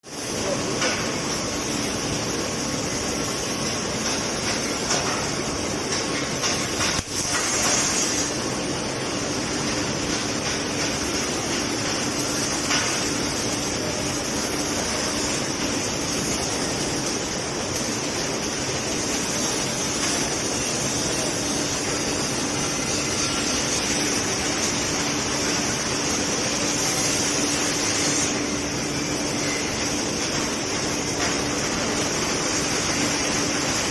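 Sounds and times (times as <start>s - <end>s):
welding machinery hiss: 0.0s - 33.9s
low mechanical hum: 0.1s - 33.9s.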